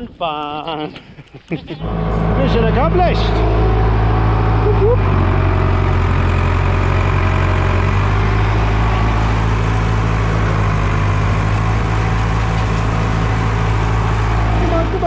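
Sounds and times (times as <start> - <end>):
tractor engine idling: 1.8 - 15.0.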